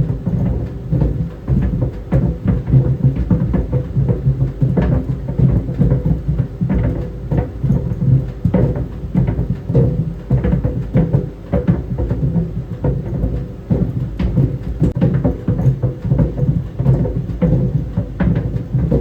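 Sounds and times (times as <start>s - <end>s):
tennis balls thudding in dryer drum: 0.0s - 19.0s.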